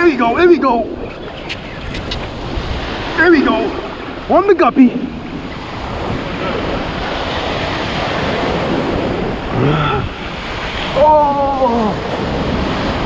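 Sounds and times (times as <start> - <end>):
waves breaking on sand: 0.0 - 13.0
wind on microphone: 0.0 - 13.0.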